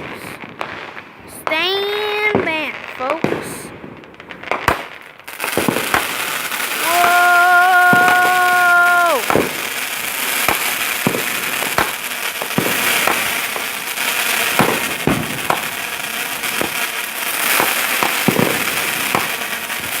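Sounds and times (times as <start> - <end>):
fireworks hissing crackle: 0.0 - 20.0
fireworks popping and banging: 0.0 - 20.0.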